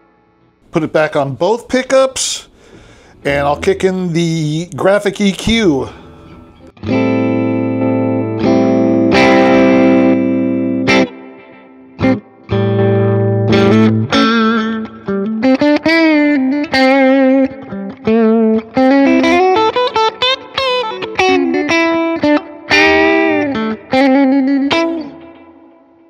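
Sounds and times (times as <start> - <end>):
electric guitar country lick: 1.6 - 26.0.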